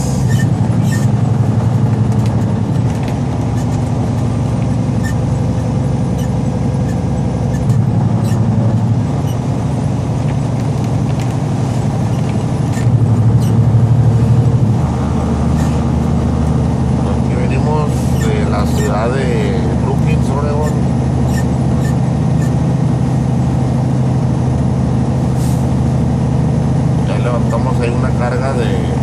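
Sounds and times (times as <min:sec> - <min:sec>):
truck diesel engine droning: 0:00.0 - 0:29.0.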